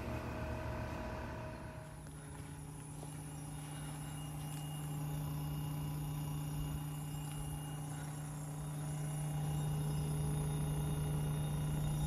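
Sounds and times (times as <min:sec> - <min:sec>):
compressor hum: 0:00.0 - 0:12.0.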